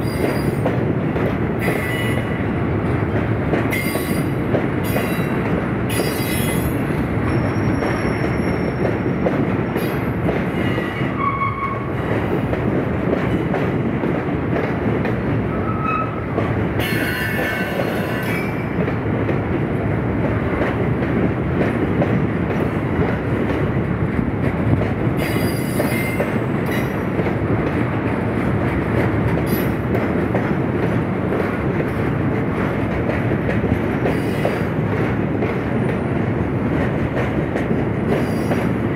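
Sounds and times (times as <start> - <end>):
train wheels rumbling and clattering: 0.0 - 38.9.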